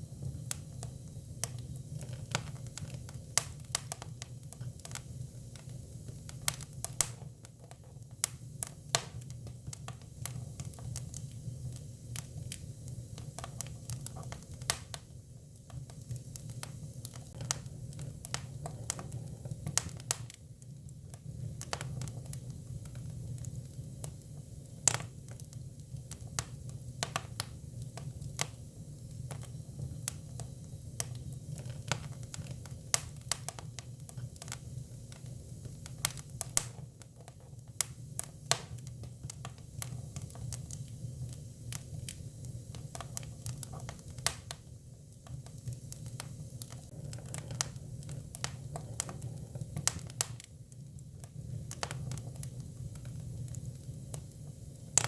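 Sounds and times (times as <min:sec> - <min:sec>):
low rumble of flames: 0:00.0 - 0:55.0
firewood crackling and popping: 0:00.1 - 0:55.0.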